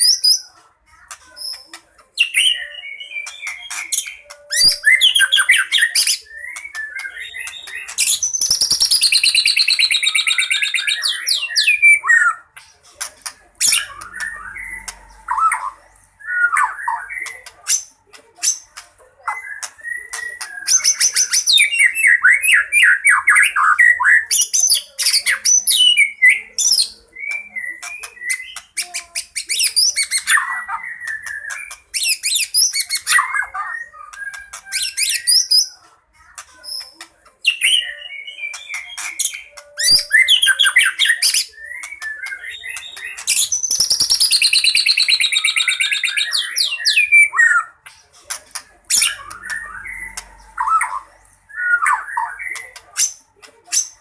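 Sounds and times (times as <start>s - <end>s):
bird song with mimicked calls: 1.1s - 35.8s, 36.4s - 54.0s.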